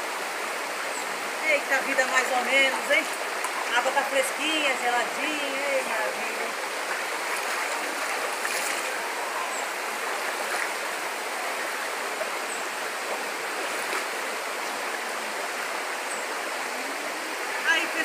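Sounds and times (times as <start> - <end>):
stream rushing over stones: 0.0 - 18.0.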